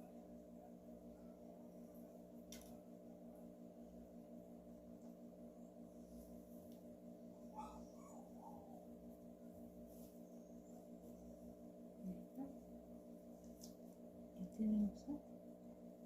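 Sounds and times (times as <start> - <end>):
faint pulsing hum: 0.0 - 16.0.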